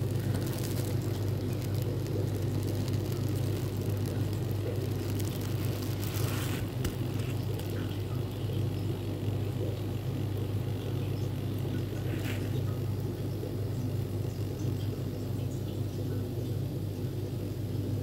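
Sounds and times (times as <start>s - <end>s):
aquarium pump humming: 0.0s - 18.0s.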